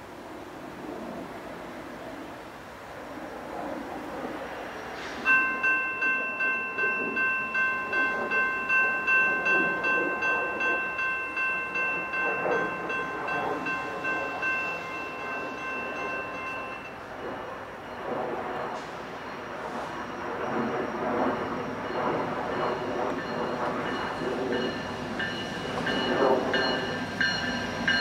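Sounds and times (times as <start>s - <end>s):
diesel locomotive rumbling: 4.6s - 28.0s
railroad bell ringing: 5.2s - 28.0s.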